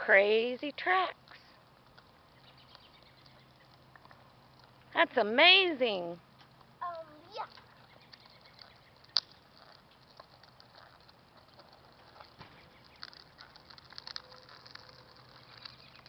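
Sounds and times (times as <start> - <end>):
plastic wheels rolling on asphalt: 0.0 - 16.0.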